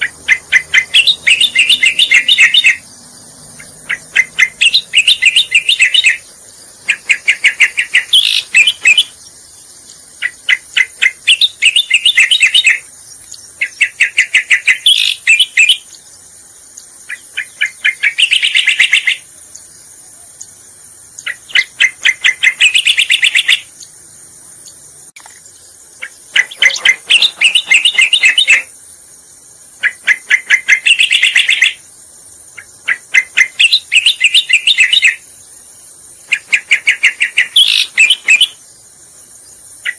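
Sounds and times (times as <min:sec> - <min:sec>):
bird song with rapid chattering notes: 0:00.0 - 0:39.9
steady high hiss: 0:00.0 - 0:39.9.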